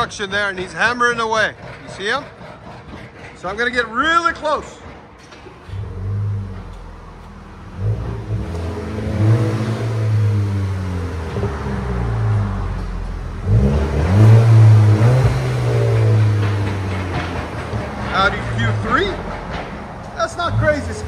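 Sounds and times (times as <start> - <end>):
car exhaust revving: 0.0 - 21.0.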